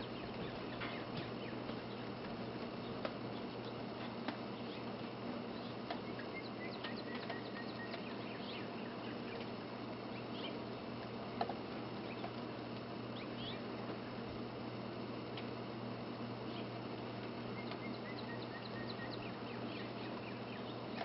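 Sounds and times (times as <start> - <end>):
faint high ticks and chirps: 0.0 - 14.0, 16.4 - 21.0
faint low hum: 0.0 - 21.0.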